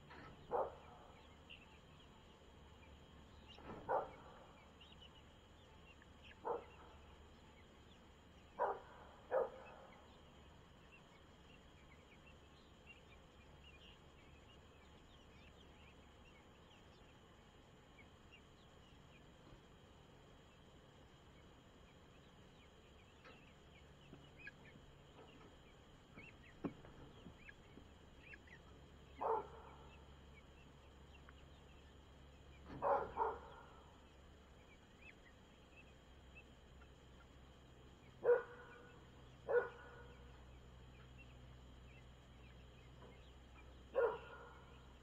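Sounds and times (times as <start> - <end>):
faint high chirping: 0.0 - 45.0.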